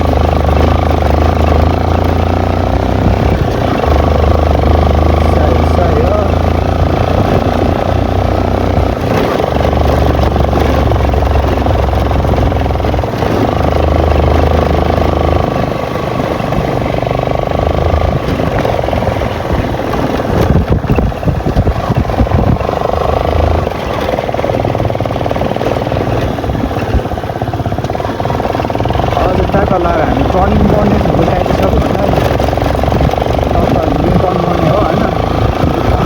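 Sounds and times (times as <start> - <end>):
motorcycle engine running: 0.0 - 36.0
wind rushing over microphone: 0.0 - 36.0.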